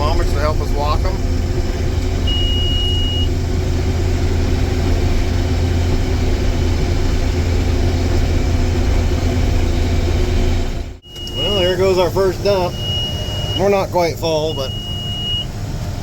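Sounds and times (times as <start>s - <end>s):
combine harvester humming: 0.0s - 16.0s.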